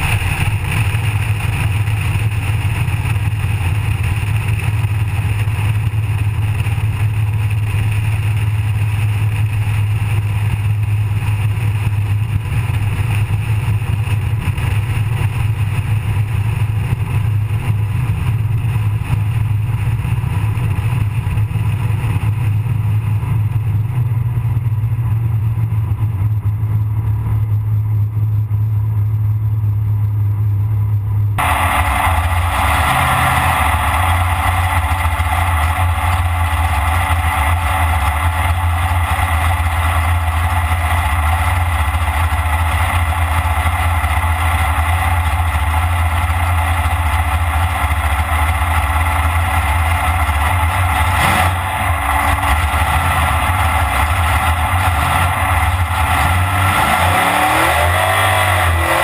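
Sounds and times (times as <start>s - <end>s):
drag car engine running: 0.0s - 59.0s.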